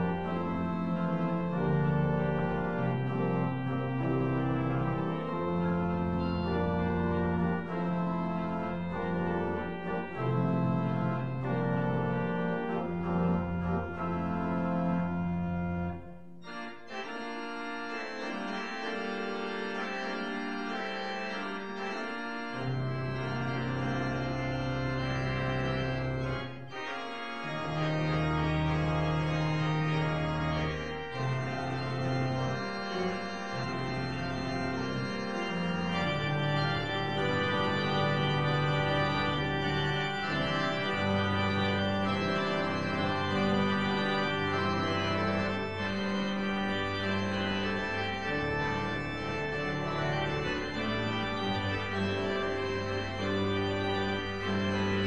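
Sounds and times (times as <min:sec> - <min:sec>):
organ playing chords: 0:00.0 - 0:55.0.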